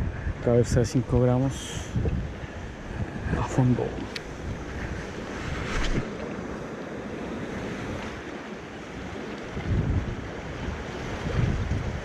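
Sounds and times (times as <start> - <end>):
wind buffeting microphone: 0.0 - 12.0
surf washing against rocks: 1.0 - 12.0.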